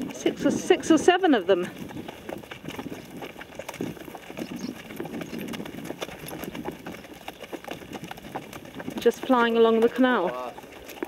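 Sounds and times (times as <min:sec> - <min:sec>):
horse hooves clopping: 0:00.0 - 0:11.0.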